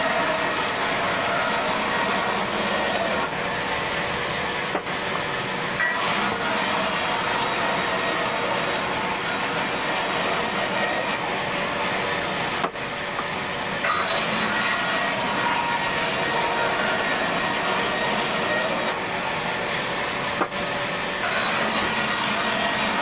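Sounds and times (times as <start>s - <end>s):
band saw cutting wood: 0.0s - 23.0s.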